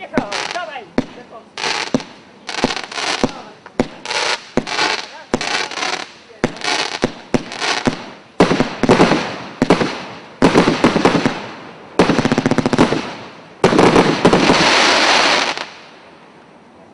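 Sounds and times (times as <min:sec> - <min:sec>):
fireworks crackling reports: 0:00.0 - 0:15.8.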